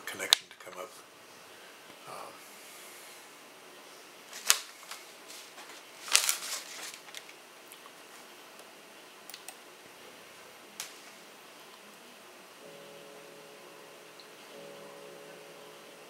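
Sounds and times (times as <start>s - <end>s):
low steady hiss: 0.0s - 16.0s.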